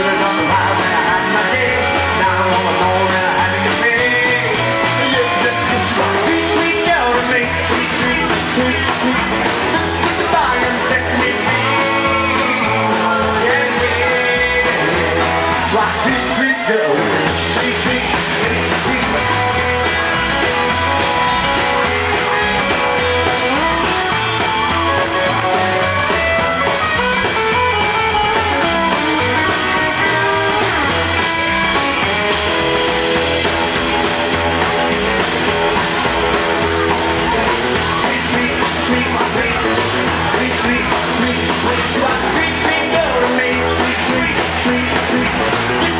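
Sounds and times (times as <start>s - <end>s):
rock and roll band playing: 0.0s - 45.9s.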